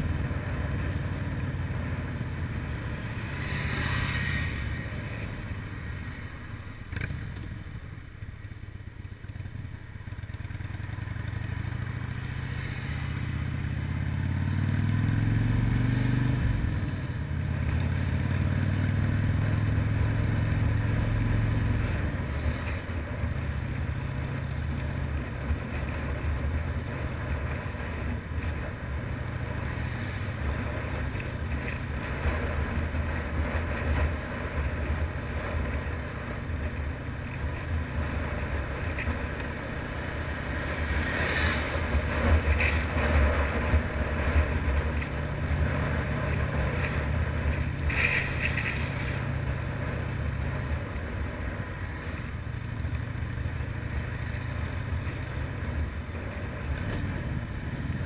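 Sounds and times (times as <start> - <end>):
motorcycle engine accelerating: 10.0 - 58.0.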